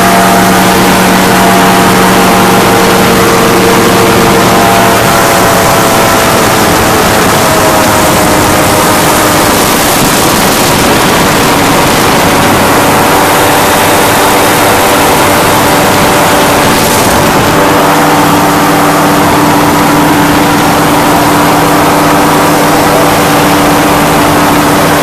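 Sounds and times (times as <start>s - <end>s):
aircraft engine and propeller: 0.0s - 25.0s
wind noise: 0.0s - 25.0s.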